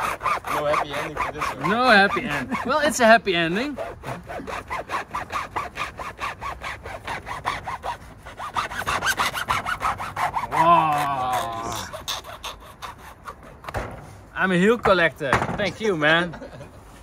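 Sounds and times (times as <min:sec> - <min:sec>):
hand saw cutting rubber heel: 0:00.0 - 0:14.0.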